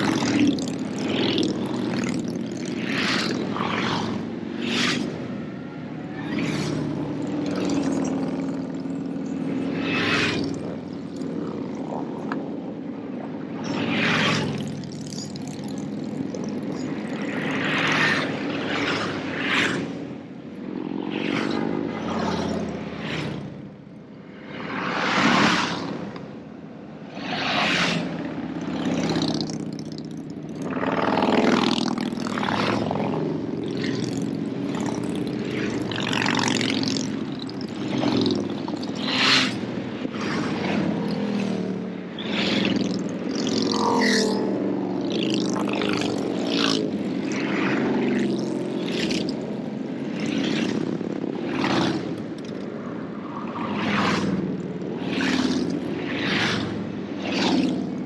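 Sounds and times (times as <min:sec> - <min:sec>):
motorcycles passing: 0:00.0 - 0:58.0.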